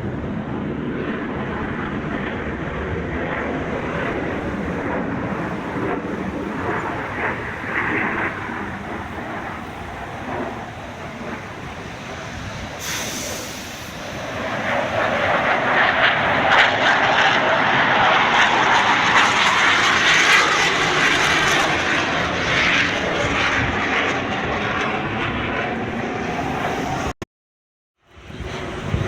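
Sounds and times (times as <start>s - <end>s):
aircraft engine flying past: 0.0s - 27.2s, 28.1s - 29.0s.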